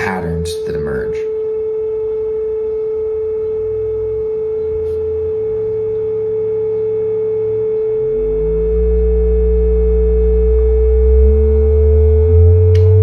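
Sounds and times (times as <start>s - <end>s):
electronic sine-wave tone: 0.0s - 13.0s
faint low gliding tones: 0.0s - 13.0s.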